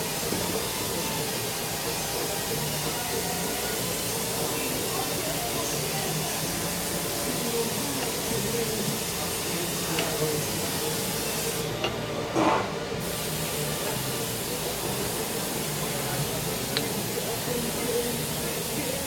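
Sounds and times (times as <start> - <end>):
faint voices: 0.0 - 19.0
workshop background hiss: 0.0 - 19.0.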